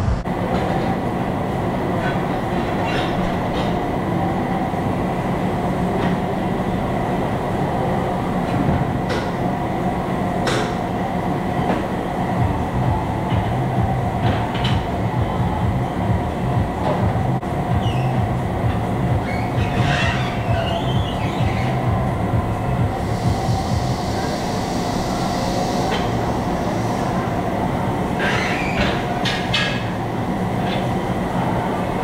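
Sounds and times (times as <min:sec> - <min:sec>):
tire-shop machinery drone: 0:00.0 - 0:32.0.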